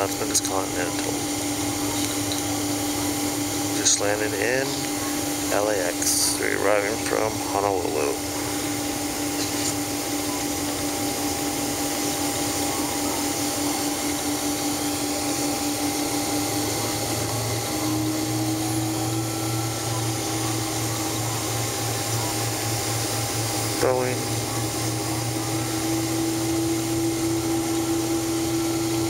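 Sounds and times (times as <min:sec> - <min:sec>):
air-conditioning hiss: 0:00.0 - 0:29.0.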